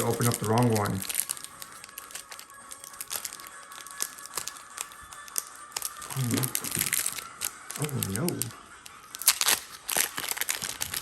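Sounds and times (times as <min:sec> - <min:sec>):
faint background music: 0:00.0 - 0:11.0
foil wrapper crinkling and tearing: 0:00.0 - 0:11.0.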